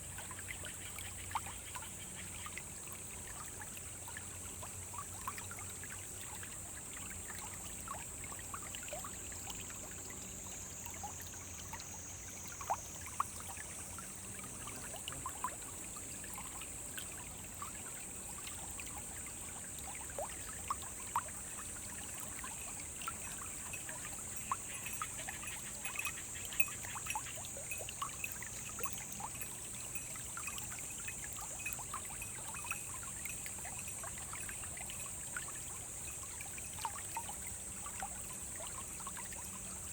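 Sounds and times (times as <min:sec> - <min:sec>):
steady high-pitched hiss: 0:00.0 - 0:39.9
stream trickling over stones: 0:00.0 - 0:39.9
water plinks: 0:01.4 - 0:39.9.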